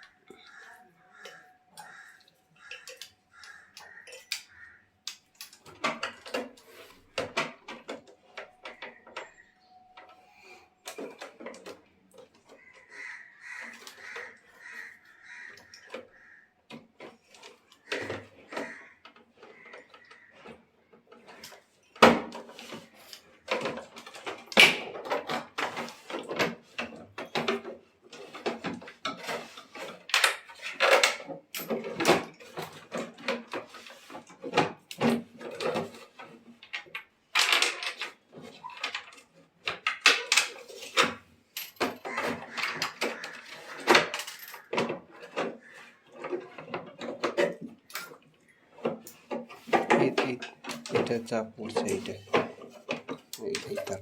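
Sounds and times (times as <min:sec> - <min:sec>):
clicks and clatter of handled parts: 0:00.0 - 0:10.2, 0:10.8 - 0:12.8, 0:15.6 - 0:54.0.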